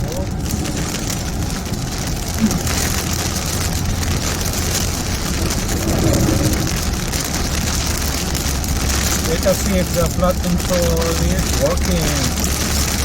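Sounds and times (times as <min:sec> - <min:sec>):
engine and road rumble: 0:00.0 - 0:13.0
heavy rain on a car: 0:00.0 - 0:13.0.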